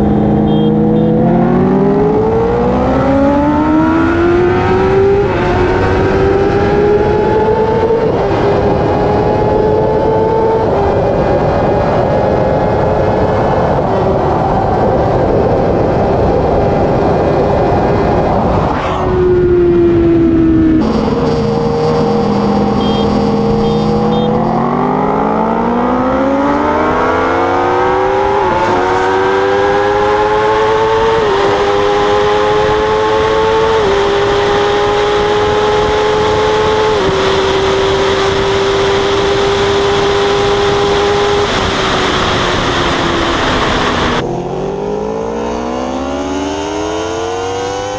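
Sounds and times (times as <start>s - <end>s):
motorcycle engine revving: 0.0s - 13.2s, 16.7s - 47.9s
wind rush: 3.6s - 45.2s.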